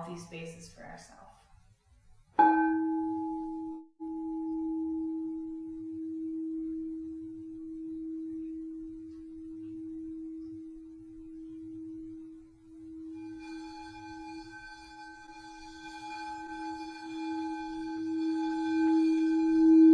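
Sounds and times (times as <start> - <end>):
crystal singing bowl ringing: 2.4 - 19.9.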